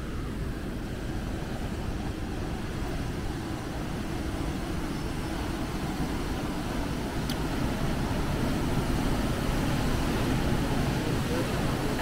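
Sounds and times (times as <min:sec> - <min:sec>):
steady low rumbling noise: 0:00.0 - 0:12.0.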